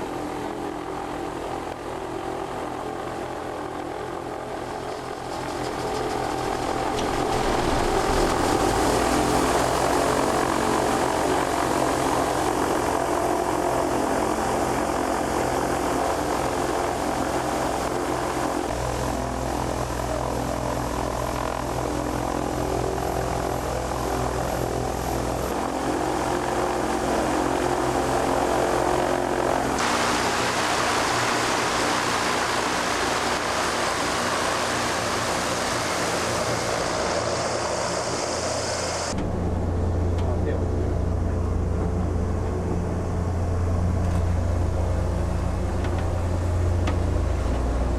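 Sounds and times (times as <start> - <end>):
propeller engines droning: 0.0 - 47.9.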